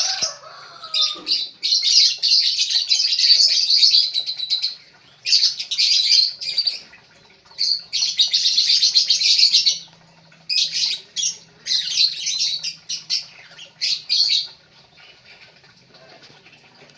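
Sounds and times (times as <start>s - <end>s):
lovebirds chirping and squawking: 0.0s - 16.3s.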